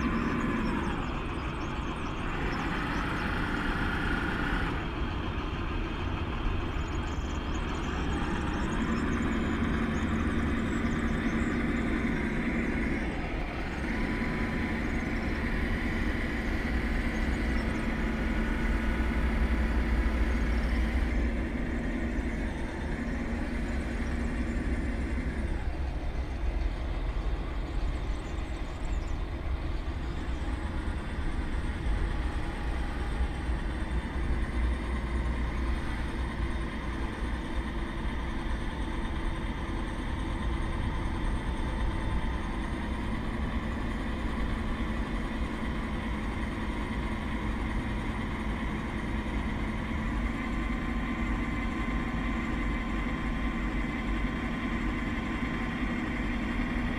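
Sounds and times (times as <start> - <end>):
constant low rumble: 0.0 - 56.9.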